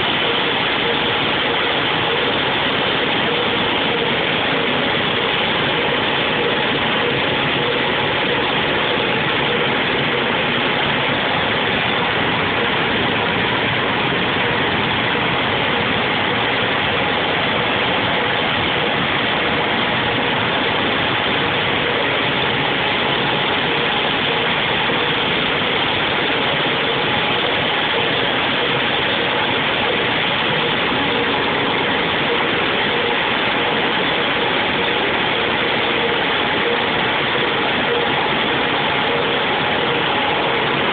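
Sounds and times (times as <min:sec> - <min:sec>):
machinery running: 0:00.0 - 0:40.9.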